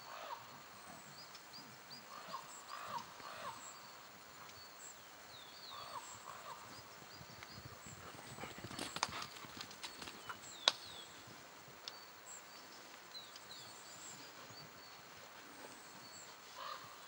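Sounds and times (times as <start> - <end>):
soft outdoor hiss: 0.0 - 17.0
songbirds chirping: 0.0 - 17.0.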